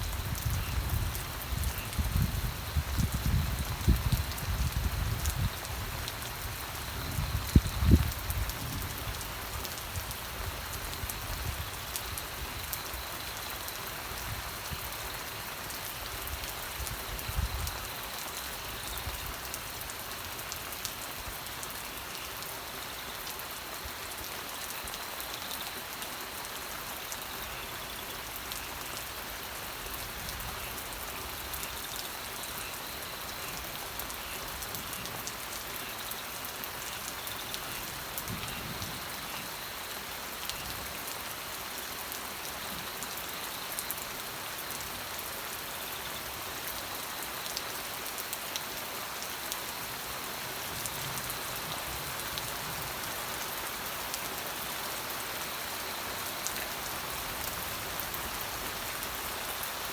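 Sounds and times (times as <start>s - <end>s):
rain drops ticking on a surface: 0.0s - 59.9s.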